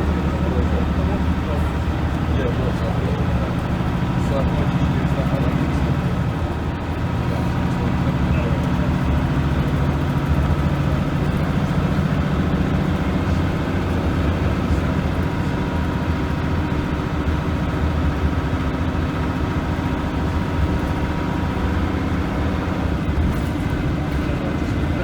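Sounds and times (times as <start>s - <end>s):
diesel bus engine droning: 0.0s - 25.0s.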